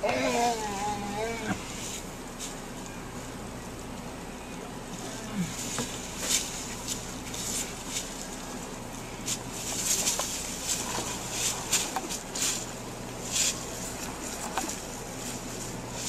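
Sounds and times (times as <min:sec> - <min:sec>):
dry leaves rustling and crackling: 0:00.0 - 0:04.1, 0:04.7 - 0:16.0
steady low hum: 0:00.0 - 0:16.0.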